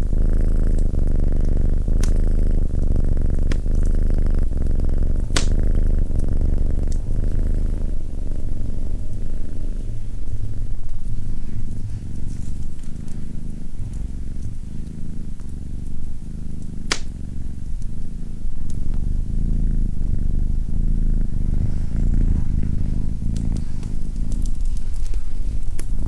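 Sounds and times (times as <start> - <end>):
cat purring: 0.0 - 26.0
fireplace fire crackling: 0.0 - 26.0.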